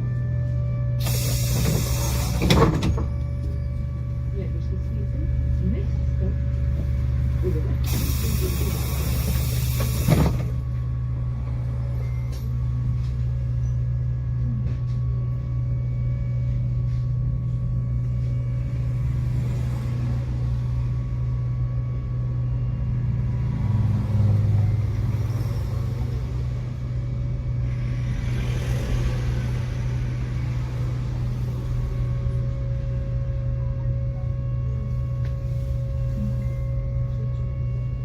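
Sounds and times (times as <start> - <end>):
tram hum and rumble: 0.0 - 38.0.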